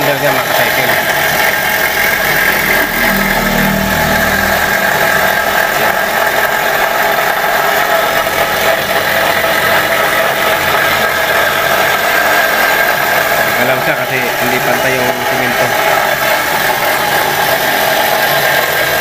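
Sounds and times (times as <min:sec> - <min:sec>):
bench grinder whirring: 0:00.0 - 0:19.0.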